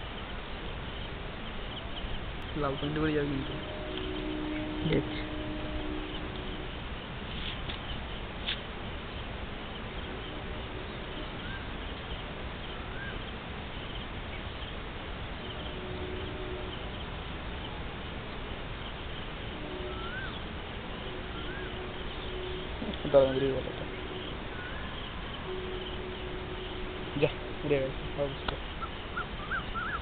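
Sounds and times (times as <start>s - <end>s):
bird chirps: 0.0s - 6.8s, 7.4s - 14.8s, 18.8s - 30.0s
steady hiss: 0.0s - 30.0s.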